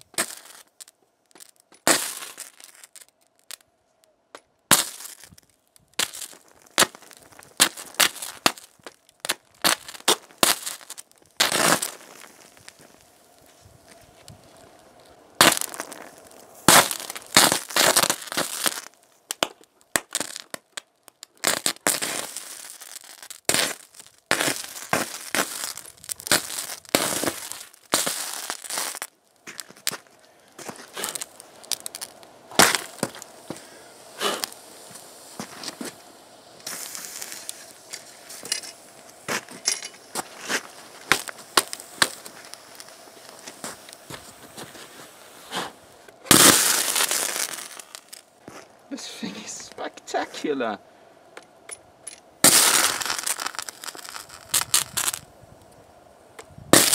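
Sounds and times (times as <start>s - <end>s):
electrical arc crackling and popping: 0.0s - 3.7s, 4.3s - 56.9s.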